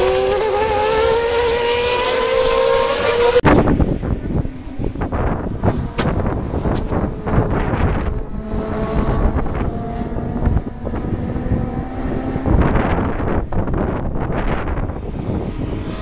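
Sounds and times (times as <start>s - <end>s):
distant racing car engines: 0.0s - 16.0s
wind buffeting microphone: 0.0s - 16.0s.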